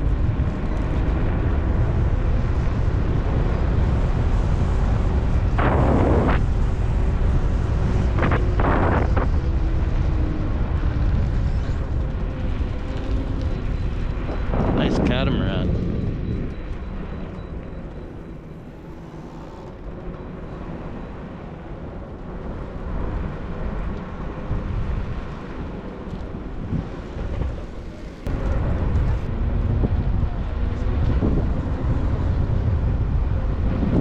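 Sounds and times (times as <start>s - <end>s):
low rumble: 0.0s - 34.0s
wind buffeting microphone: 0.0s - 34.0s.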